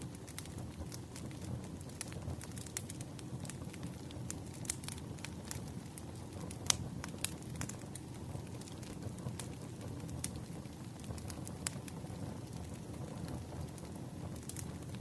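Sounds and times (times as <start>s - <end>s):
logs crackling and popping: 0.0s - 15.0s
low rumble of flame: 0.0s - 15.0s.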